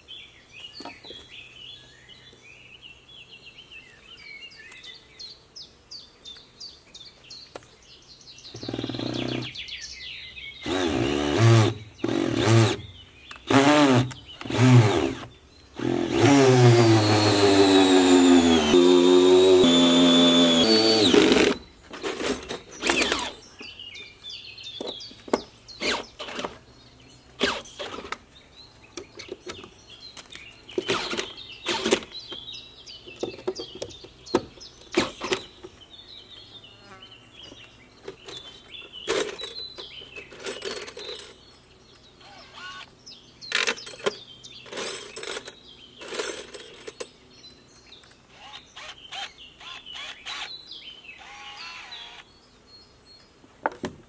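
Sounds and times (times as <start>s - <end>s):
birds chirping faintly: 0.0s - 54.0s.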